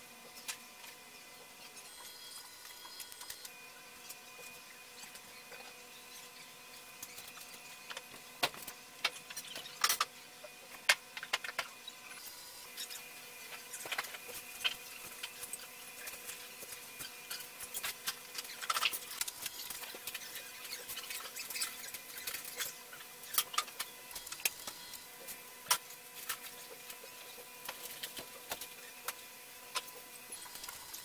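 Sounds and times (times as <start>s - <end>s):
robot arm motors whining: 0.4s - 10.6s, 11.4s - 31.0s.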